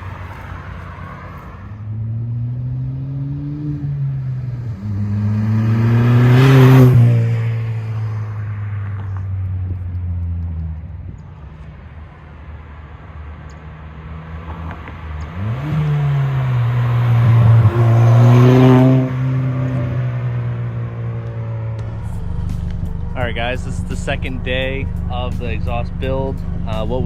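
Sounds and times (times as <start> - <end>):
car engine revving: 0.0 - 11.6, 13.2 - 27.0.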